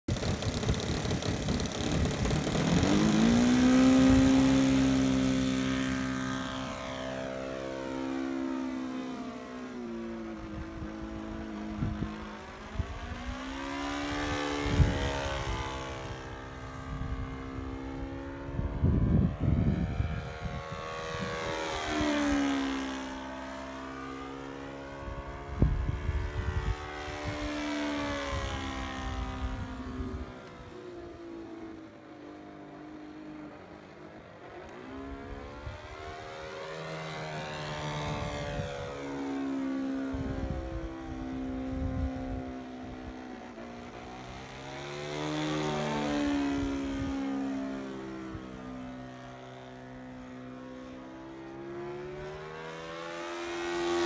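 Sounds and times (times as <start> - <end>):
model plane engine droning: 0.1 - 54.0.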